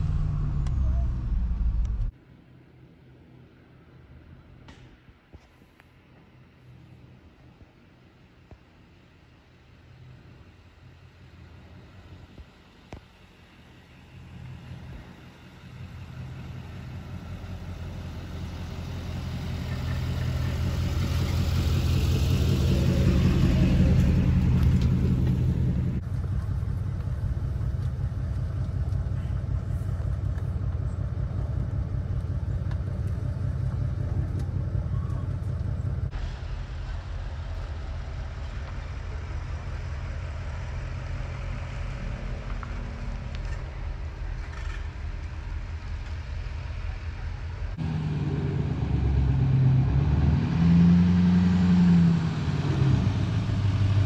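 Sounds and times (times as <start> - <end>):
engine noise inside vehicle cabin: 0.0 - 2.2, 8.4 - 54.0
low steady drone: 0.0 - 2.2, 9.8 - 54.0
vehicle approaching on road: 0.0 - 4.8, 6.0 - 54.0.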